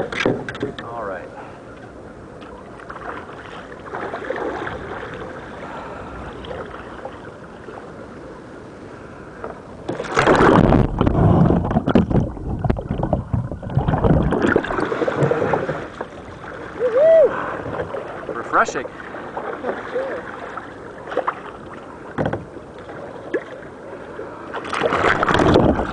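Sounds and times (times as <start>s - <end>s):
paddle sounds: 0.0s - 25.9s
water lapping: 2.4s - 25.9s
loud splash and churning water: 2.8s - 7.9s, 9.9s - 25.9s.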